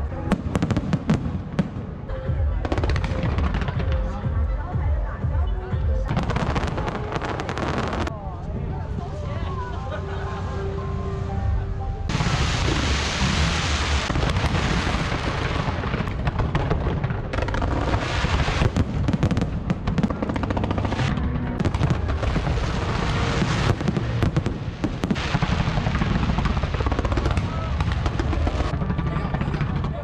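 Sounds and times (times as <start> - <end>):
fireworks bursting and crackling: 0.0 - 4.3, 6.1 - 8.1, 12.1 - 30.0.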